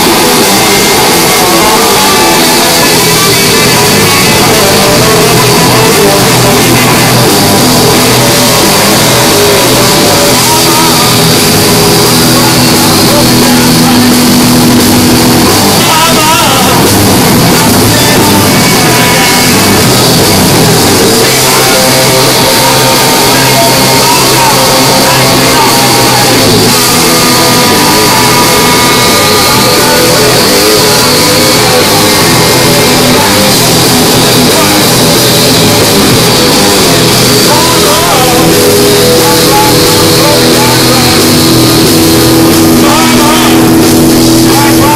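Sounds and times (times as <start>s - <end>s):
drum kit: 0.0s - 44.9s
electric guitar: 0.0s - 44.9s.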